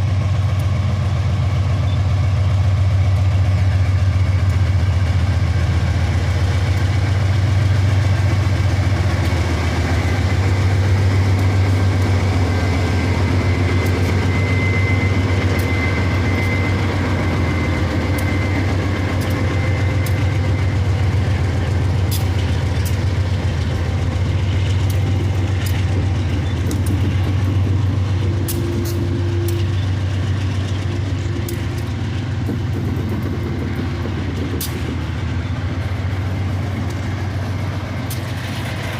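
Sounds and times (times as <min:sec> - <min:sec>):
diesel locomotive humming: 0:00.0 - 0:38.9.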